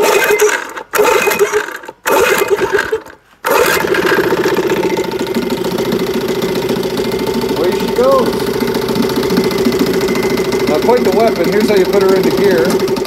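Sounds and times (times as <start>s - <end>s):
outboard motor starting and running: 0.0s - 13.0s.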